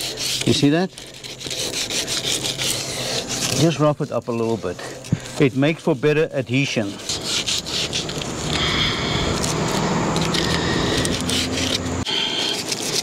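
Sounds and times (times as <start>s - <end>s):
sandpaper scraping glass: 0.0s - 13.0s.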